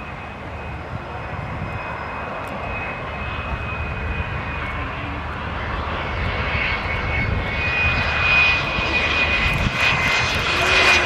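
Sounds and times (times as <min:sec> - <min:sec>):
aircraft engine drone with whine: 0:00.0 - 0:11.0.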